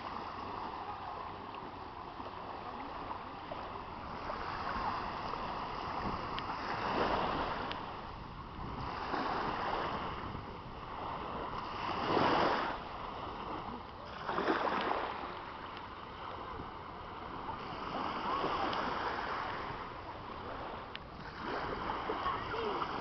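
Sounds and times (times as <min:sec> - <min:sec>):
water rushing and splashing: 0:00.0 - 0:23.0.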